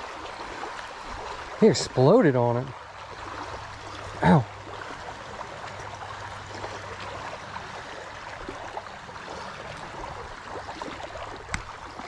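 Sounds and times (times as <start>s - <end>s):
water trickling and gurgling: 0.0s - 12.0s.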